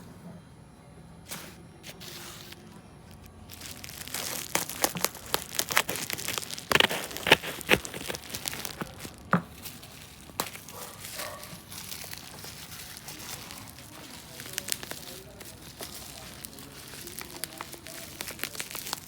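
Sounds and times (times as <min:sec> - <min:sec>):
packaging crinkling and tearing: 0:01.3 - 0:19.0.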